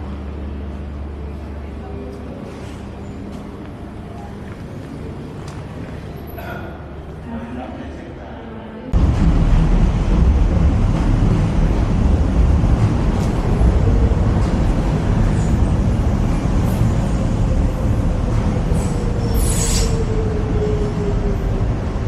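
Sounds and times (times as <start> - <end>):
train rumbling on tracks: 0.0 - 22.0.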